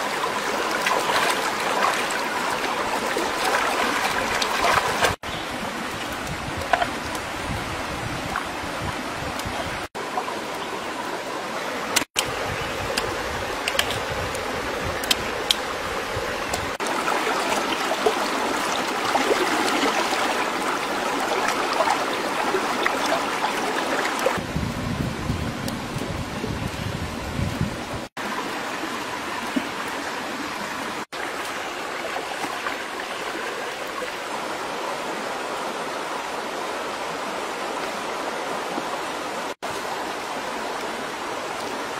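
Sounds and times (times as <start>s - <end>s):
rocky stream running: 0.0s - 24.6s, 28.2s - 41.9s.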